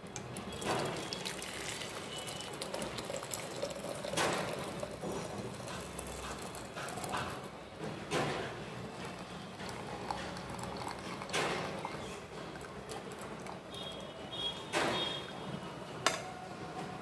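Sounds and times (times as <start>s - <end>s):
tea bubbling as it boils: 0.0s - 7.6s, 8.2s - 14.5s.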